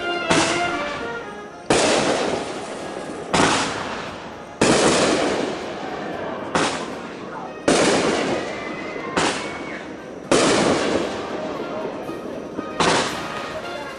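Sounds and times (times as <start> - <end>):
fireworks booming: 0.0 - 13.9.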